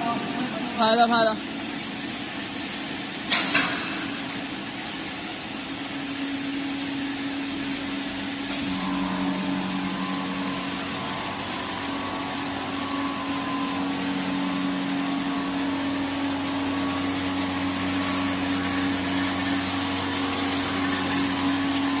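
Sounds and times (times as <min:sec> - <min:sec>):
machine humming and hissing: 0:00.0 - 0:22.0.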